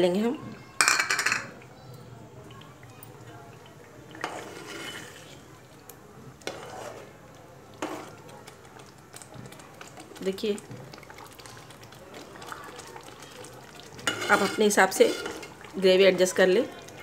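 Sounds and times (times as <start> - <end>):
spoon stirring in metal pot: 3.1 - 17.0.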